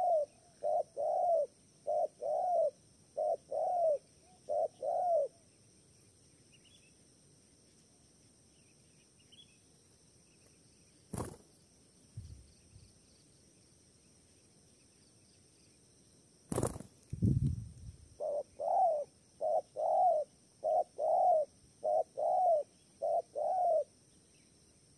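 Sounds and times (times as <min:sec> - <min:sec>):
faint distant bird chirps: 0:00.0 - 0:24.9.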